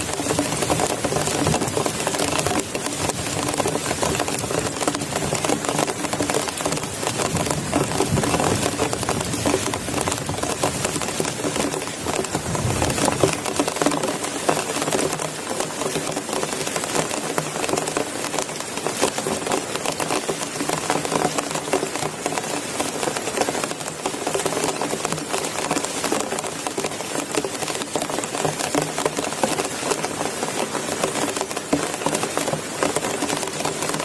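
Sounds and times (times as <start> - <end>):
heavy rain pattering: 0.0 - 34.0.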